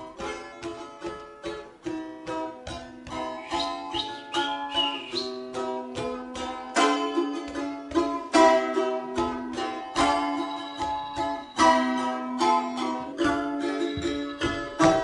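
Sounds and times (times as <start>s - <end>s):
balalaikas strumming and plucking: 0.0s - 15.0s.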